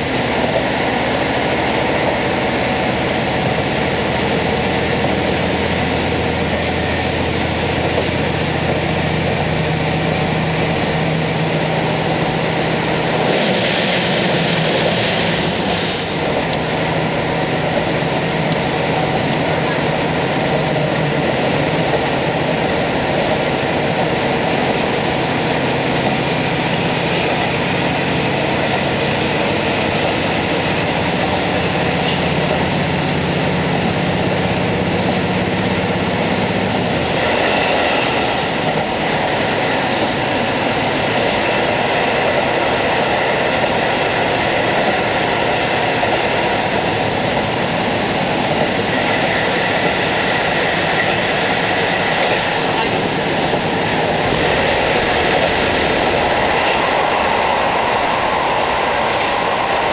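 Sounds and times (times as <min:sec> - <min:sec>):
diesel engine droning: 0:00.0 - 0:59.9
train wheel and rail noise: 0:00.0 - 0:59.9.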